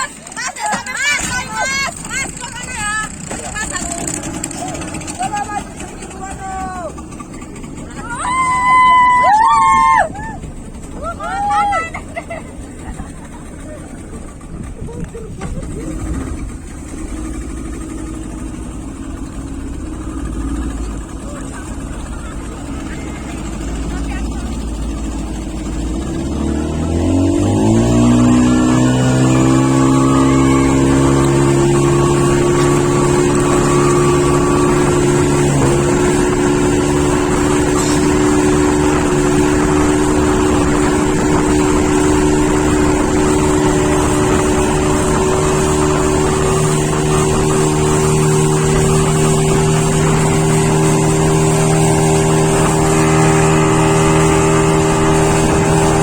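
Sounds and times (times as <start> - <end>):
motorboat engine: 0.0 - 56.0.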